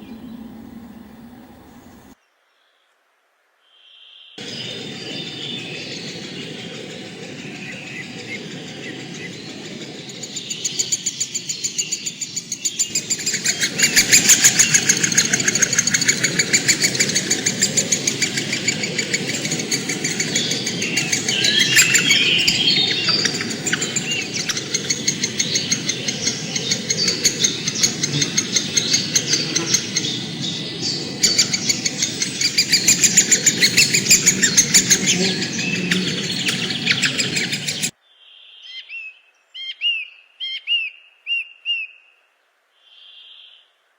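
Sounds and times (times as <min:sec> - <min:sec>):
birds calling: 0:00.0 - 0:02.2, 0:04.4 - 0:42.1
dense high chirping chorus: 0:00.0 - 0:02.2, 0:04.4 - 0:38.0
whistled bird notes: 0:03.8 - 0:42.1.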